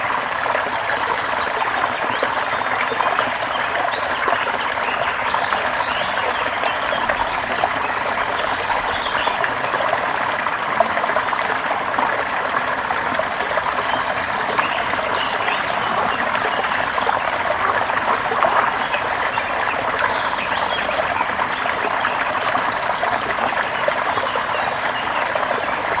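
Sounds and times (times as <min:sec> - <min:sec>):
stream trickling and babbling: 0:00.3 - 0:26.0.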